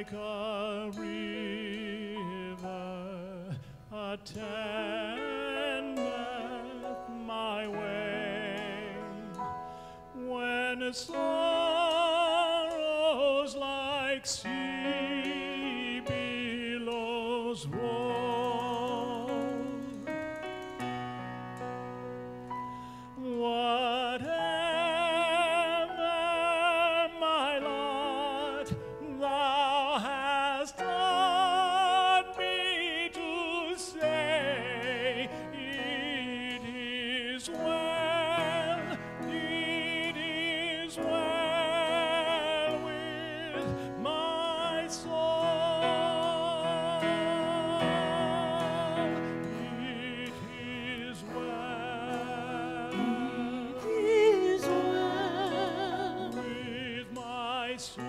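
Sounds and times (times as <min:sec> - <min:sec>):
person singing classical with vibrato: 0:00.0 - 0:58.0
sustained accompaniment: 0:00.0 - 0:58.0.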